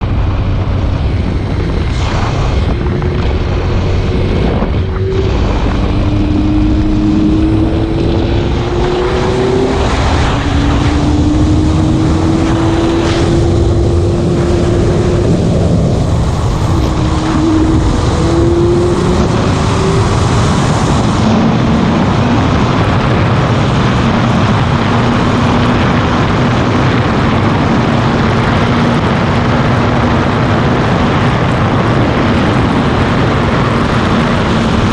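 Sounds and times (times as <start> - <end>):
motorcycle engine running: 0.0 - 34.9
wind rush on microphone: 0.0 - 34.9.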